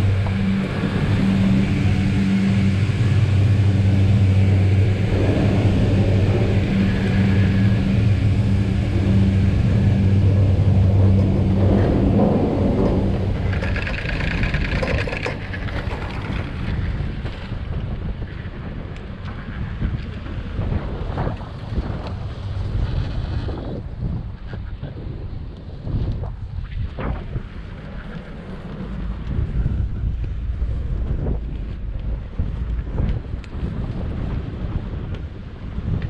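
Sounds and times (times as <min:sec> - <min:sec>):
low mechanical hum: 0:00.0 - 0:36.0
rumble: 0:00.0 - 0:36.0.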